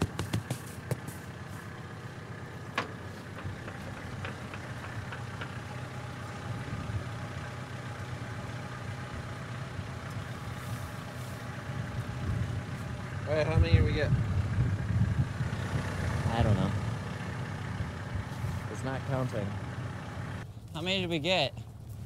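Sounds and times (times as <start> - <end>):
tractor engine idling: 0.0 - 20.5.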